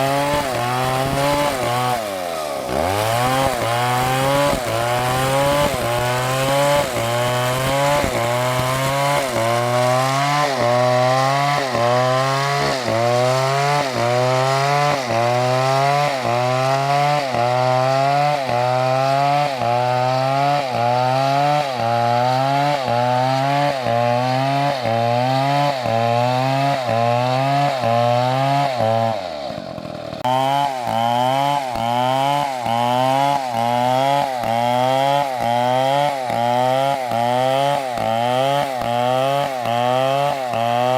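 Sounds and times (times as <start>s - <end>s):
chainsaw cutting into tree: 0.0s - 40.9s.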